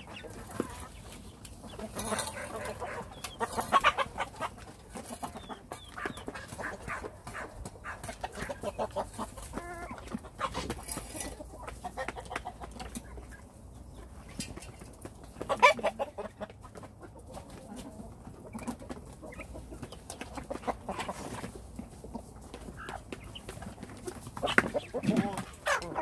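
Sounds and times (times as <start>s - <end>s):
beaks pecking feed pan: 0.0s - 26.0s
chickens clucking: 0.0s - 26.0s.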